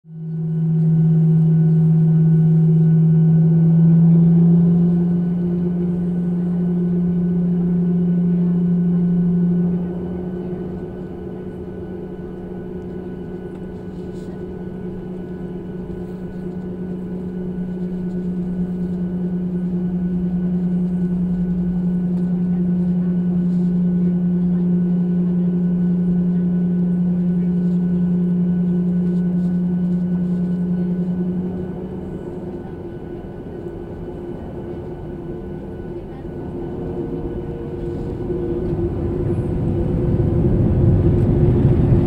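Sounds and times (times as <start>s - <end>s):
jet engines humming in cabin: 0.1s - 42.0s.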